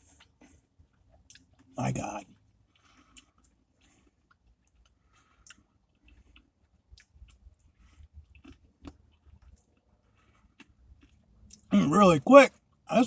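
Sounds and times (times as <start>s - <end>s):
chewing ice cream: 0.0s - 13.0s.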